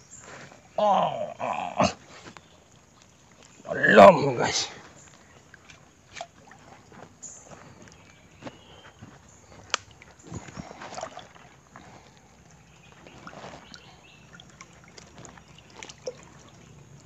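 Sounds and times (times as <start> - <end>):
water sloshing and splashing: 2.0 - 17.0.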